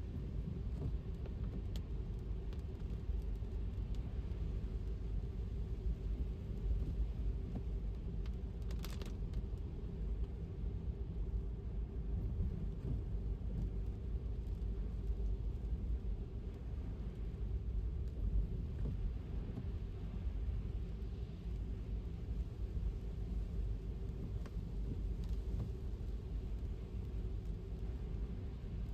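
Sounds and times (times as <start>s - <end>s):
car tyres rumbling on wet road: 0.0s - 28.9s
faint steady hum: 0.0s - 28.9s.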